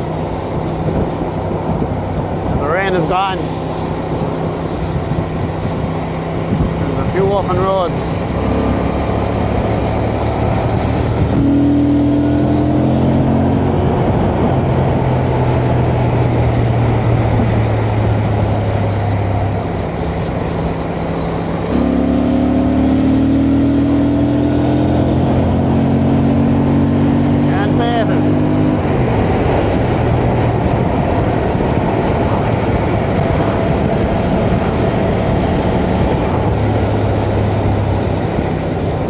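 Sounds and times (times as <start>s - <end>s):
motorcycle engine running: 0.0s - 39.0s
wind rush: 0.0s - 39.0s.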